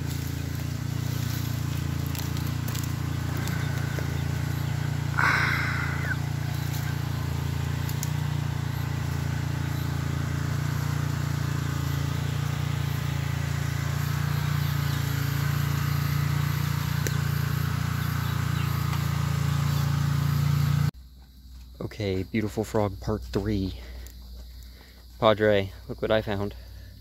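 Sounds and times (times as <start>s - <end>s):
steady low hum: 0.0s - 27.0s
faint high insect chirps: 0.1s - 20.0s, 21.0s - 27.0s.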